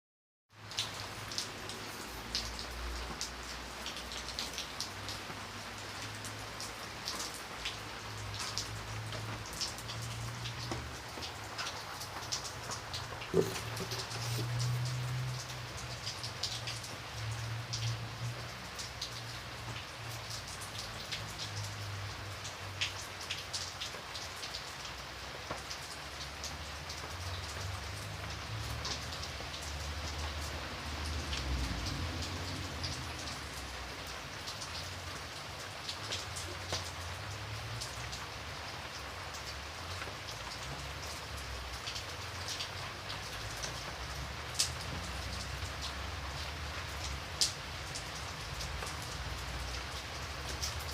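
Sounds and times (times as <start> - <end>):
light rain falling: 0.5 - 50.9
raindrops tapping: 0.6 - 50.9.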